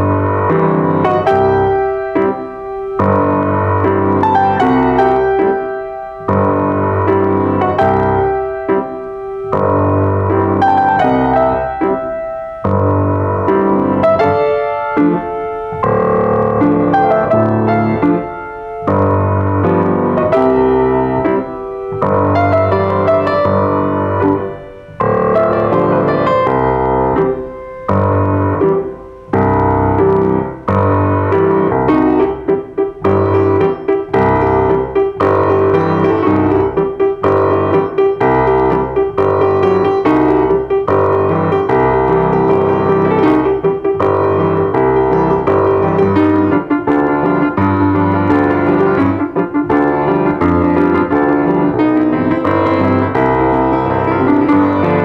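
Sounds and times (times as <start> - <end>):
grand piano playing solo: 0.0 - 55.0.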